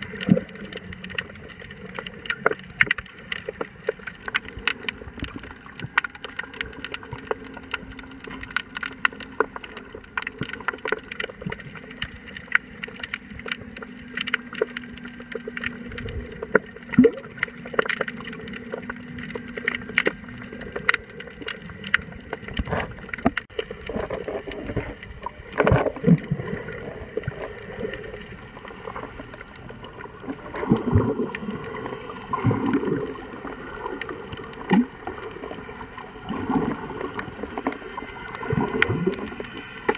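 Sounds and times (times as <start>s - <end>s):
bubbling gurgling swishes: 0.0s - 39.9s
underwater clicks and crackles: 0.0s - 39.9s.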